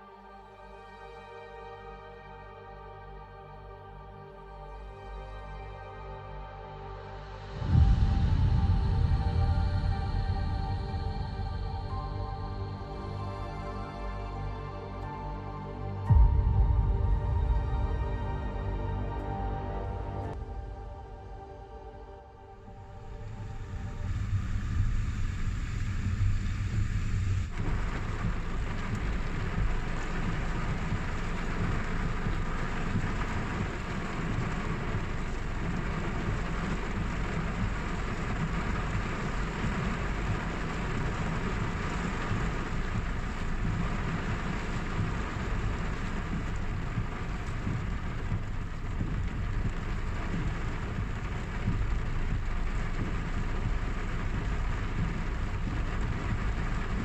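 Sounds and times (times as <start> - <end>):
steady rain hiss: 0.0 - 57.0
deep low rumble: 6.8 - 57.0.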